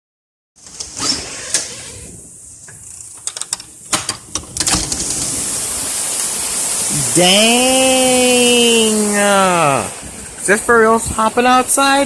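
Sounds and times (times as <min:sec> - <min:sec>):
heavy rain hiss: 0:00.7 - 0:12.0.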